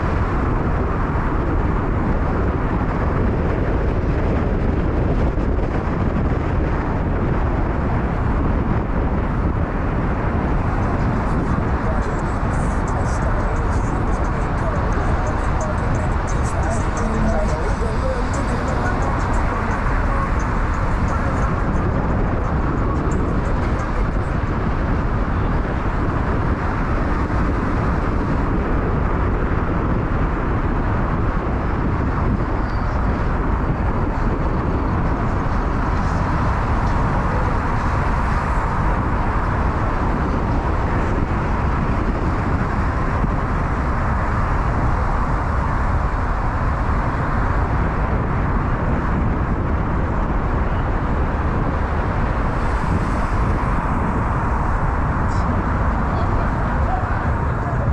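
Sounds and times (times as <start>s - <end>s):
car road noise: 0.0s - 57.9s.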